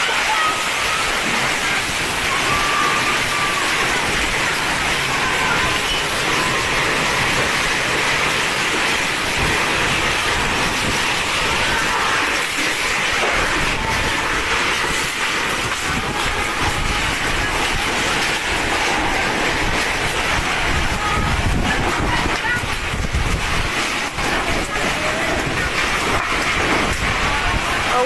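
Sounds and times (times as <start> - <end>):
strong wind blowing: 0.0 - 28.0.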